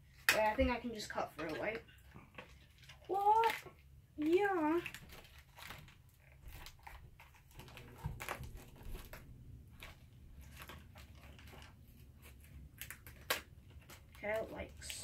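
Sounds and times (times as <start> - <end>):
plastic packaging crackling: 0.0 - 15.0.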